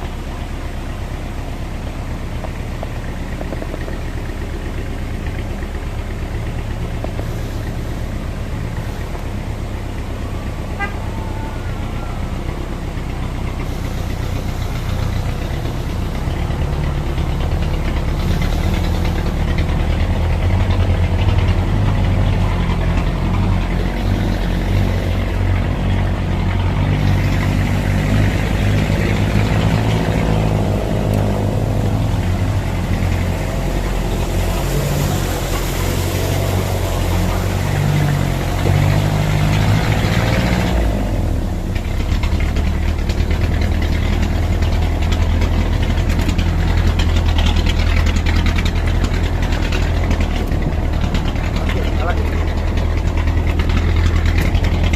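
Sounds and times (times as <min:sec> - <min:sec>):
off-road vehicle engine running: 0:00.0 - 0:54.9.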